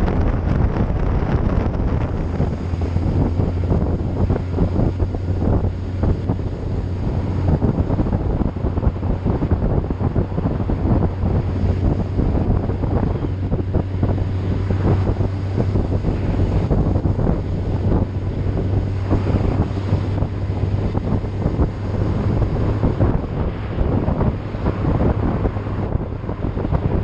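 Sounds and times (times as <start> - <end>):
low engine drone: 0.0 - 27.0
wind buffeting microphone: 0.0 - 27.0.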